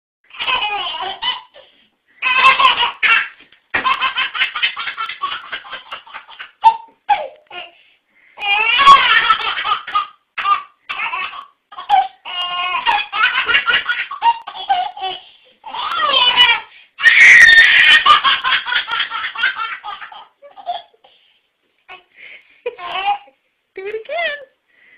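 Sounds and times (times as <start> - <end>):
baby laughing: 0.3 - 7.8, 8.4 - 21.1, 22.7 - 23.4.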